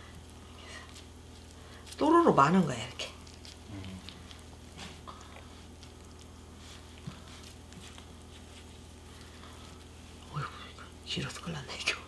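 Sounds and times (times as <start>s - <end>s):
wet squishing and rustling: 0.0s - 11.9s
steady low hum: 0.0s - 12.0s.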